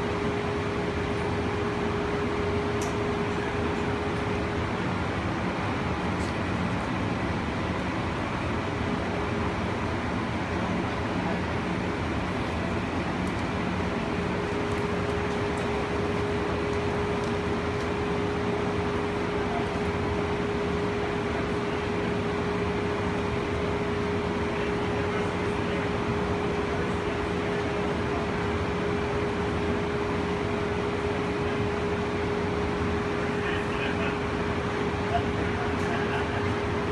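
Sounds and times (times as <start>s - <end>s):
steady hum: 0.0s - 36.9s
train cabin rumble and hiss: 0.0s - 36.9s.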